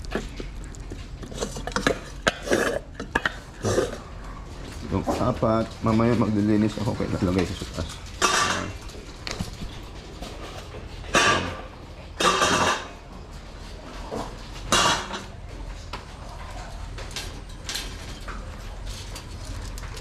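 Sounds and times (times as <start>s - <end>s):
metal bowls clattering: 0.0s - 20.0s.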